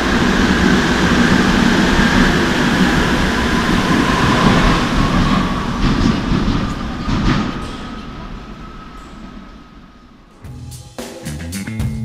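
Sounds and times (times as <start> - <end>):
train wheels rumbling on rail: 0.0 - 10.7
train wheel clacks: 0.0 - 11.3.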